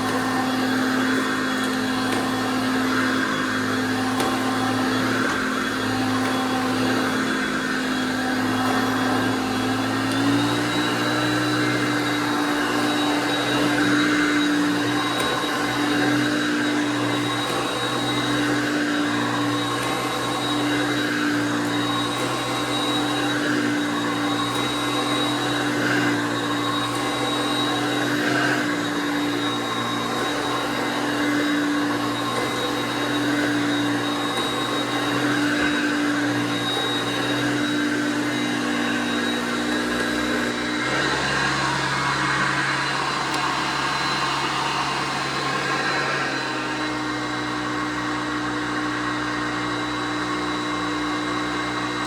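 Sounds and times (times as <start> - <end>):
vacuum cleaner running: 0.0 - 52.0.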